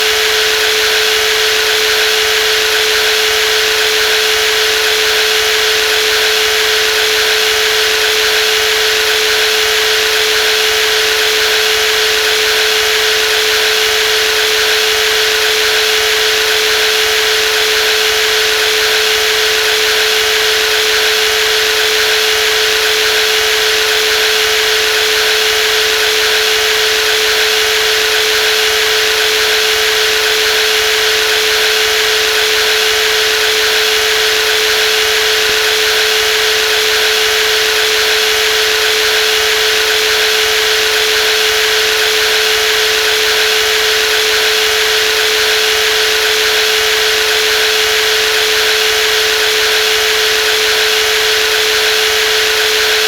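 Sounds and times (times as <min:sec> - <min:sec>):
jigsaw motor whine: 0:00.0 - 0:53.0.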